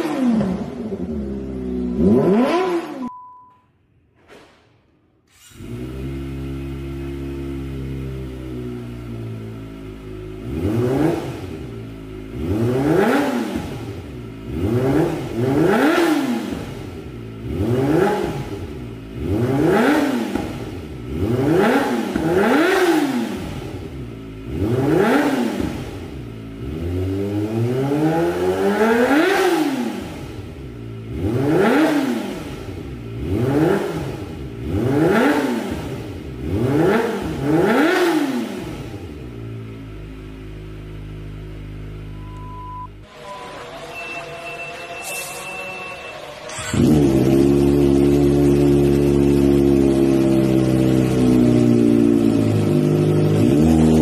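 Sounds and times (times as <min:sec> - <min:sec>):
motorcycle engine revving: 0:00.0 - 0:03.1, 0:05.3 - 0:43.7, 0:46.1 - 0:54.0.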